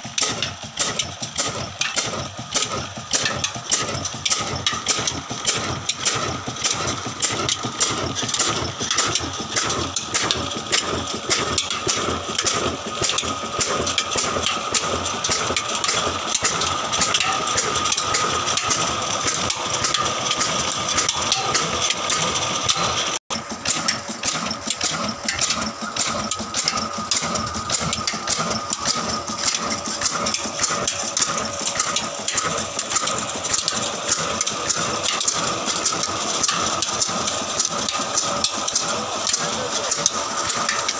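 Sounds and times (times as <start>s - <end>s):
diesel engine clattering: 0.0s - 40.9s.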